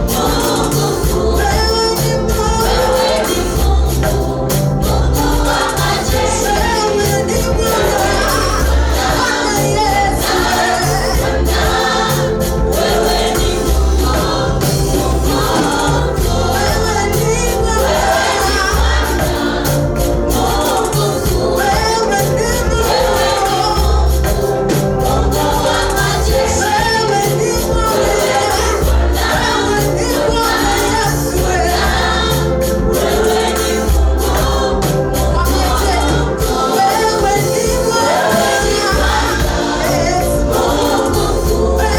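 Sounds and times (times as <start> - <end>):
band accompaniment: 0.0 - 41.9
gospel choir singing: 0.0 - 41.9
steady bass beat: 0.0 - 41.9.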